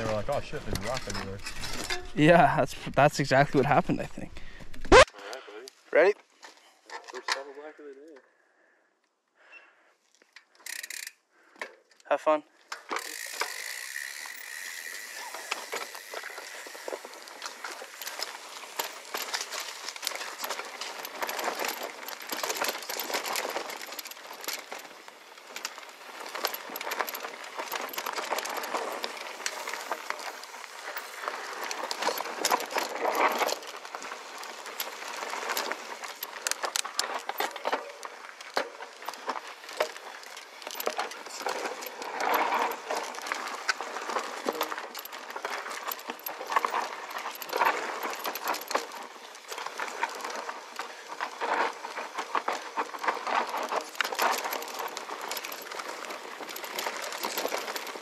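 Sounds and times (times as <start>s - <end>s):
bike tyres rolling over dirt: 0.0s - 8.2s, 10.6s - 58.0s
bike clicking and rattling: 0.0s - 8.3s, 10.0s - 58.0s.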